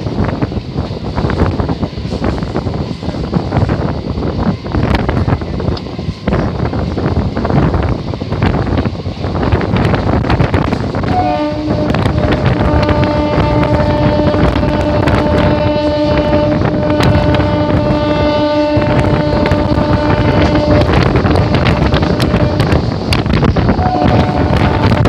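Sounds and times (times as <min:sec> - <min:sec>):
wind rushing past window: 0:00.0 - 0:25.0.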